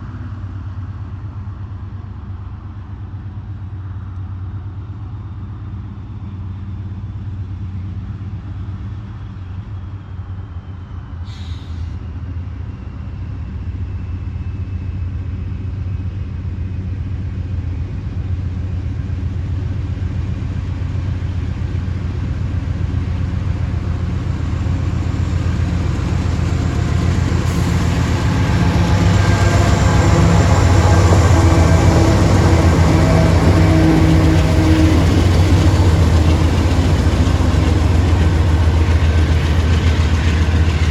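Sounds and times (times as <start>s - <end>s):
locomotive engine drone: 0.0s - 40.9s
train wheel and rail noise: 0.0s - 40.9s.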